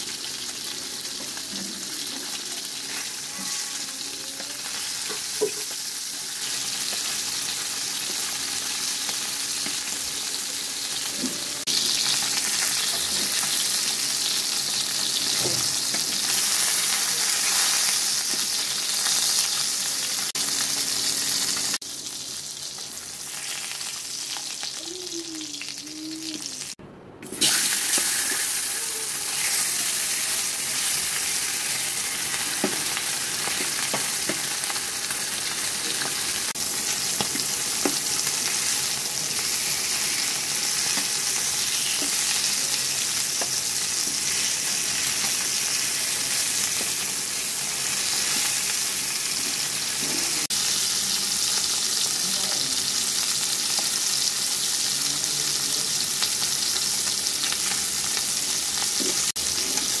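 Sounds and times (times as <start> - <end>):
fish sizzling in hot oil: 0.0 - 60.0.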